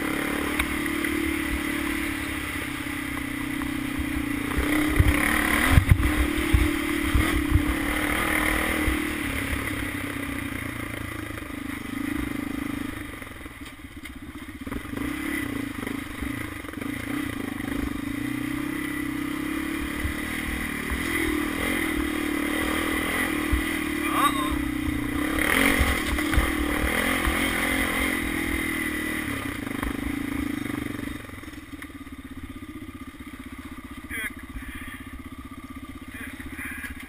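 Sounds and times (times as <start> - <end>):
quad engine running: 0.0 - 37.0.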